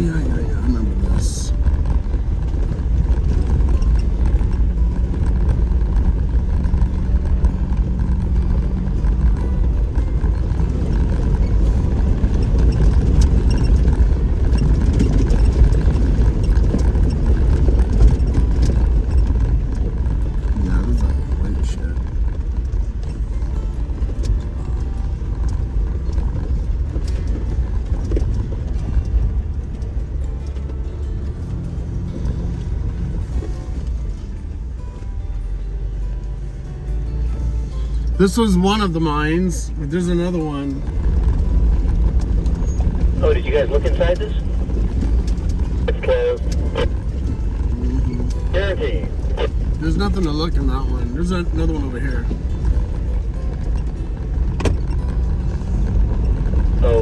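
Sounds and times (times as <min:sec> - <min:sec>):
off-road vehicle engine rumble: 0:00.0 - 0:57.0.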